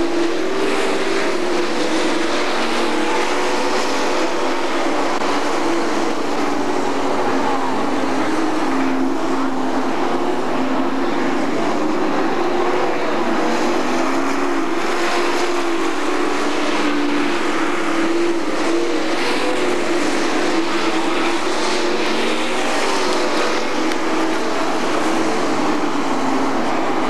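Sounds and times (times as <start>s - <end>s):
race car engines droning: 0.0s - 27.0s.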